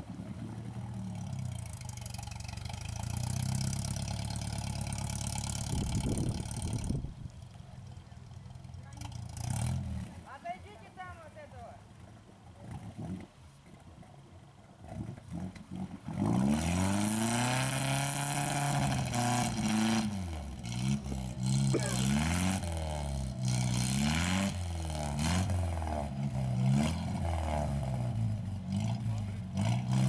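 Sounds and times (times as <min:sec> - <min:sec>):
off-road vehicle engine revving: 0:00.0 - 0:10.6, 0:12.1 - 0:13.5, 0:14.7 - 0:30.0.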